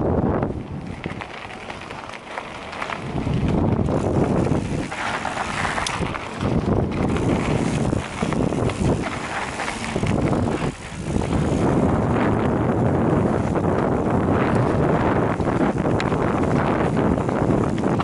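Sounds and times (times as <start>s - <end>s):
bike tyres and frame rattling: 0.0s - 18.0s
wind rushing over microphone: 0.0s - 18.0s.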